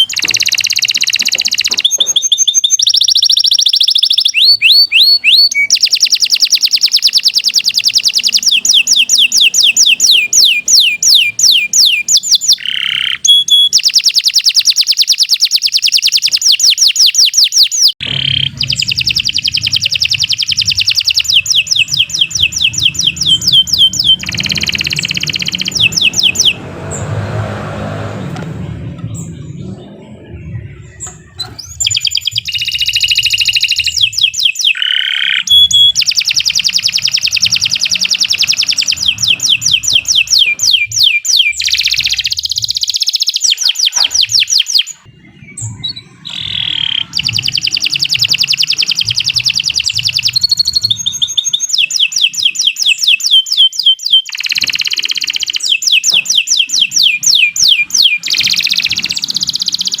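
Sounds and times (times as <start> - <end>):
canary singing trills: 0.0 - 60.0.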